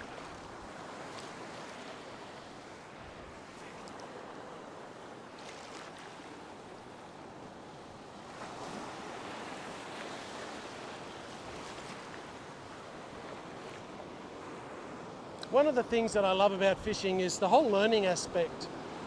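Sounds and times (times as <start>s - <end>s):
small waves breaking: 0.0s - 19.0s.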